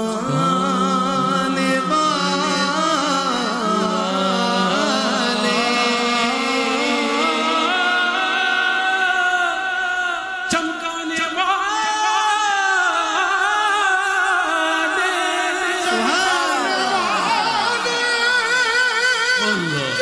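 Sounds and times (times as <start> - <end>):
men singing into microphones: 0.0 - 20.0.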